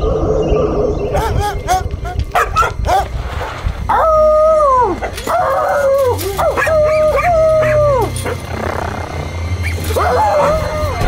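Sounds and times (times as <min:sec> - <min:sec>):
dog howling: 0:00.0 - 0:03.1, 0:03.8 - 0:11.0.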